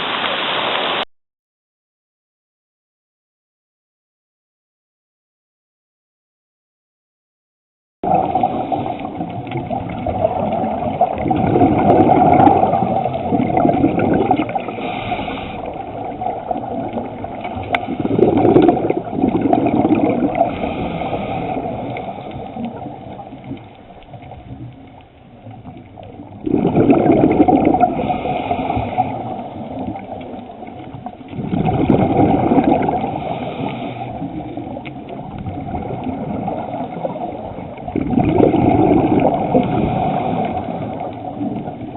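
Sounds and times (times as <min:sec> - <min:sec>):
underwater bubbling: 0:08.0 - 0:41.9.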